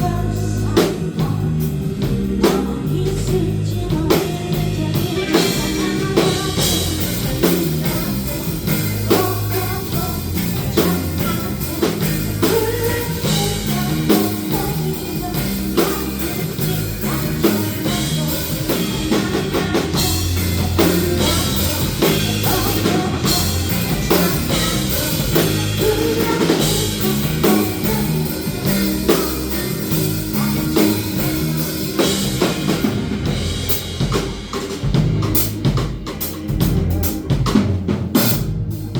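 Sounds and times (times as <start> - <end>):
person singing: 0.0 - 33.2
drums hitting steadily: 0.0 - 38.9
rock band playing: 0.0 - 38.9.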